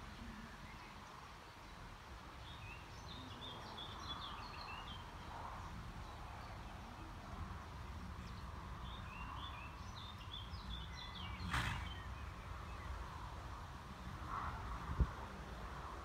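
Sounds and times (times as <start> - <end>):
songbird chirping: 0.0 - 13.4.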